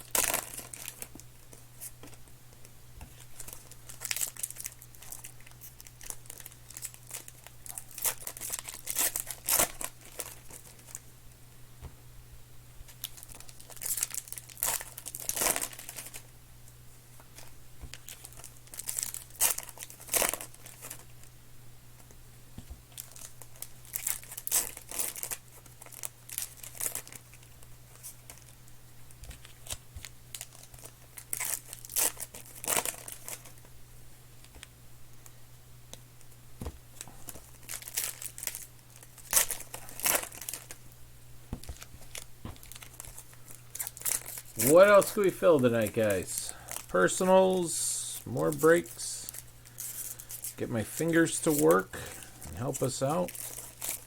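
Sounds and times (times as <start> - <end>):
card pack wrappers crinkling and tearing: 0.0 - 2.2, 3.1 - 11.1, 12.9 - 16.3, 17.3 - 21.3, 22.9 - 28.6, 29.2 - 33.7, 36.9 - 40.9, 41.5 - 54.0.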